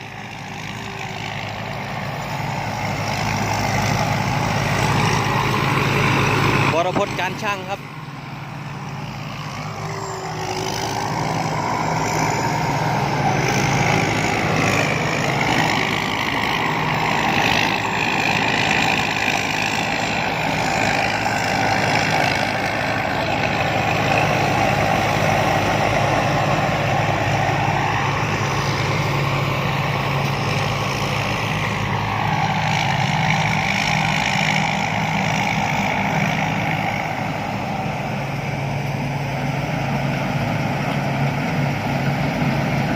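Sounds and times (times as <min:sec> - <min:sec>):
combine harvester running: 0:00.0 - 0:42.9.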